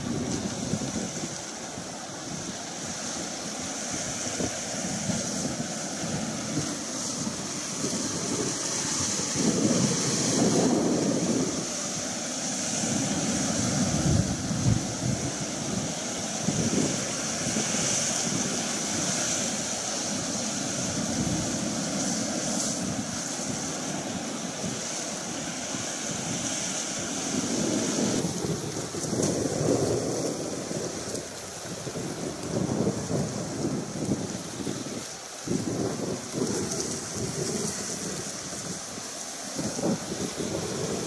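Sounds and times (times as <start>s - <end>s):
sea waves washing: 0.0s - 41.0s
wind on microphone: 0.0s - 41.0s.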